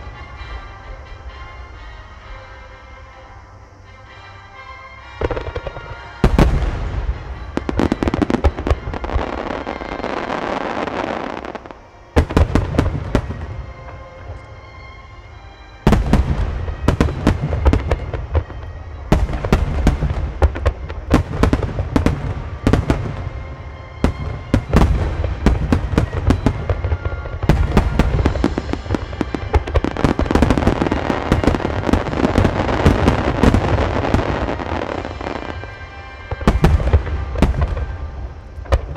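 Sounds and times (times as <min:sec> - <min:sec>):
fireworks booming and bursting: 0:05.1 - 0:14.4, 0:15.8 - 0:38.9.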